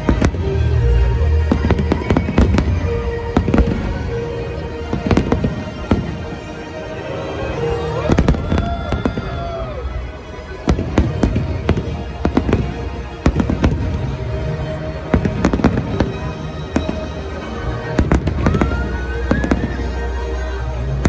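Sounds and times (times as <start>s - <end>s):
fireworks bursting: 0.0s - 20.1s
music playing: 0.0s - 21.0s.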